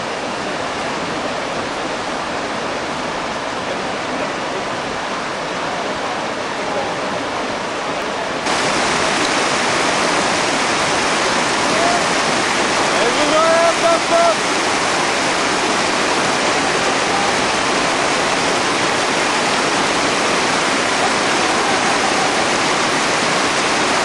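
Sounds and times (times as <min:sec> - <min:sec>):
whitewater rushing: 0:00.0 - 0:24.0.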